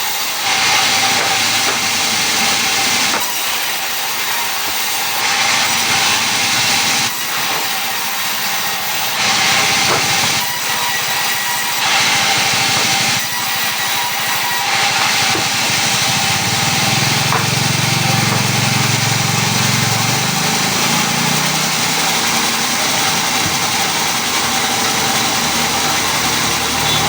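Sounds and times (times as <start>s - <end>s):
machine motor humming: 0.1s - 27.0s.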